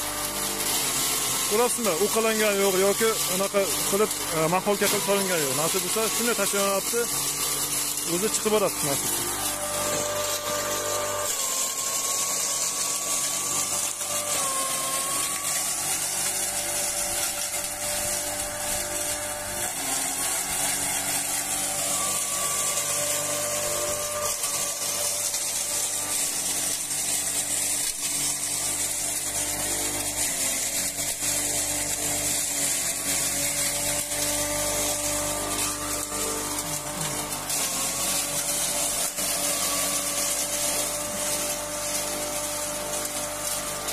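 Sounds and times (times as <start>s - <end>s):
chaff blowing hiss: 0.0s - 43.9s
grinder motor whine: 0.0s - 43.9s.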